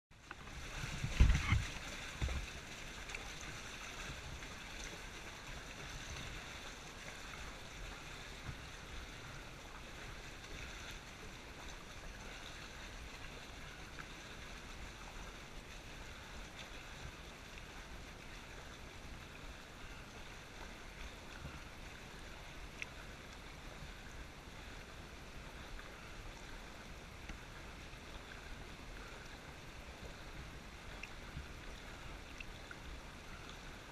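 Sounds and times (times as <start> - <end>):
stream water flowing and lapping: 0.1 - 33.9.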